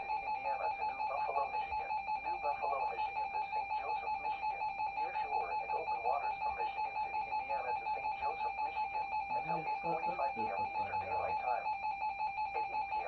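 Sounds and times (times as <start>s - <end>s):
electronic alarm beeping: 0.0s - 13.0s
faint radio voice: 0.3s - 11.8s, 12.4s - 13.0s.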